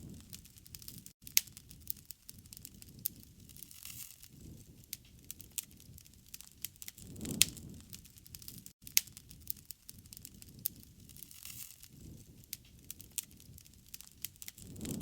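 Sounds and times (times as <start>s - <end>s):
campfire crackling: 0.0s - 15.0s
sharp pops of fire: 0.0s - 15.0s.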